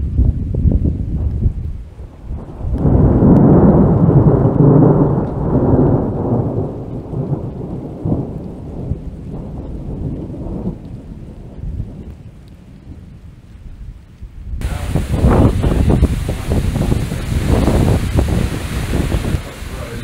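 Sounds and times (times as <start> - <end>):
thunder rumbling and cracking: 0.0 - 13.3, 14.5 - 20.0.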